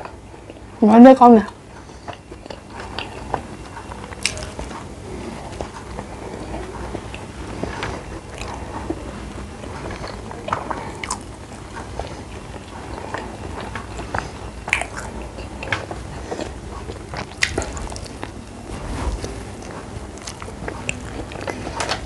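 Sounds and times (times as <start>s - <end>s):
person chewing food: 1.5s - 22.0s.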